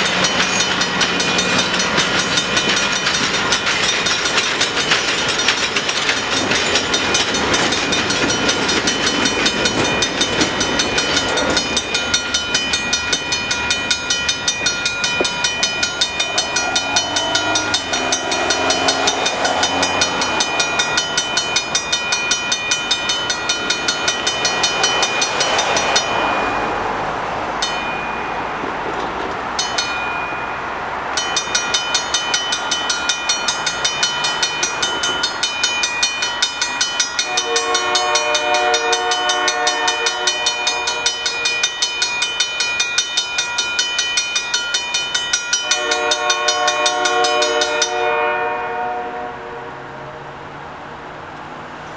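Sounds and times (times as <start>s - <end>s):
crossing bell ringing: 0.0s - 50.6s
train rolling rumble: 0.0s - 51.9s.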